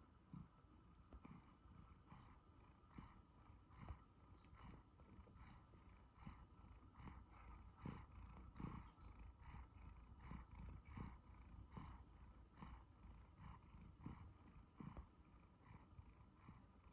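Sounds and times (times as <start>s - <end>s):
cat purring: 0.0s - 16.9s.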